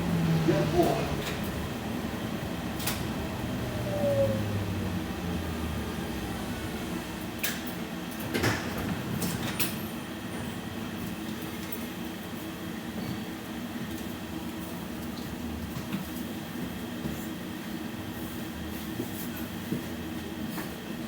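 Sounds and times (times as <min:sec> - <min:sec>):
low hum of tram car: 0:00.0 - 0:21.0.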